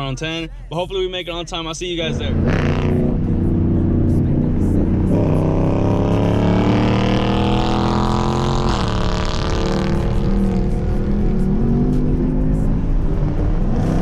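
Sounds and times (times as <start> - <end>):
car engine accelerating hard: 2.1 - 14.0.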